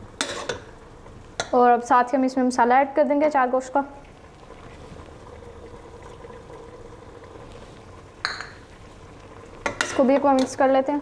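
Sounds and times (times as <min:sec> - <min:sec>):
beef sizzling and bubbling in pot: 0:00.0 - 0:11.0.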